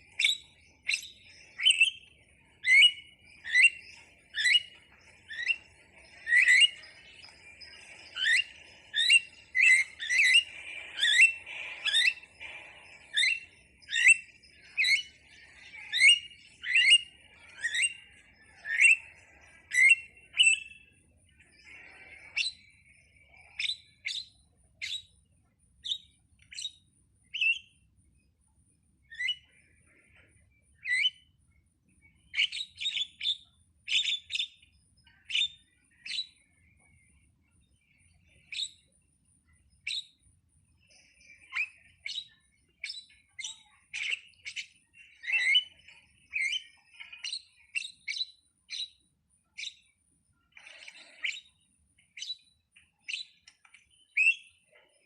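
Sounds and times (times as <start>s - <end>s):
starling chirping: 0.0s - 27.8s, 29.0s - 31.3s, 32.0s - 55.0s.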